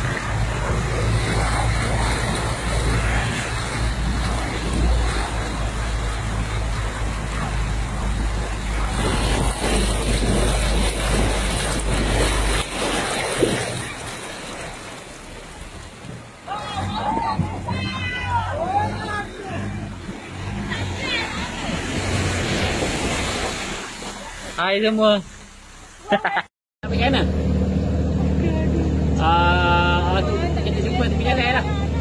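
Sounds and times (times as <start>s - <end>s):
low car rumble: 0.0s - 24.6s, 26.8s - 32.0s
floodwater rushing: 0.0s - 32.0s.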